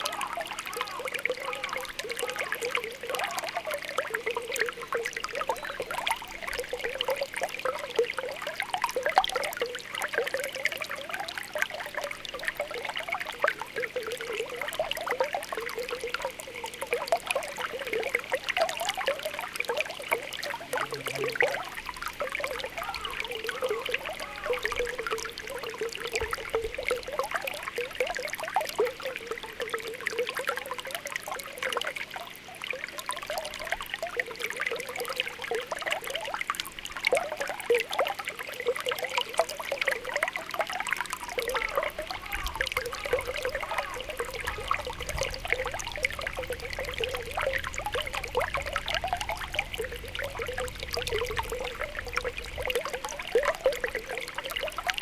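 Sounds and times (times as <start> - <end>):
bubbles popping: 0.0 - 55.0
water trickling: 0.0 - 55.0.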